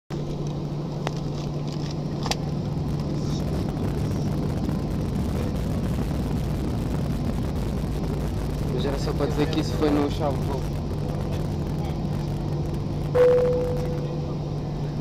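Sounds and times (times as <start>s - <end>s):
jet engines humming and rushing: 0.1s - 15.0s.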